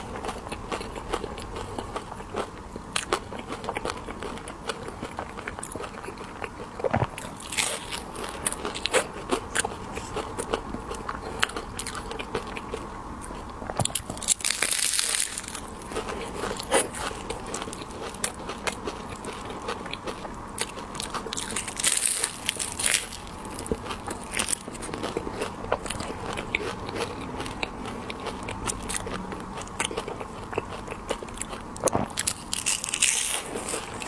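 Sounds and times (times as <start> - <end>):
chewing crunchy candy: 0.0 - 34.0.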